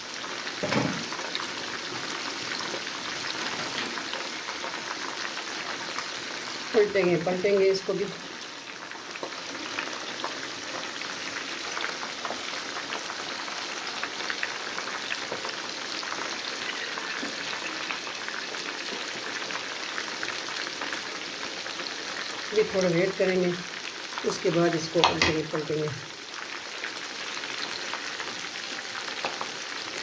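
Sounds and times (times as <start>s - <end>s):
chicken frying in hot oil: 0.0s - 30.0s.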